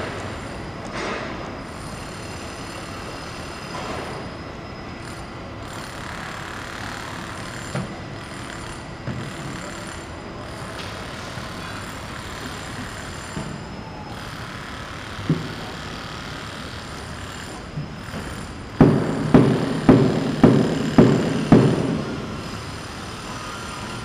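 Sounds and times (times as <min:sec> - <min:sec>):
heavy machinery engines rumbling: 0:00.0 - 0:24.0.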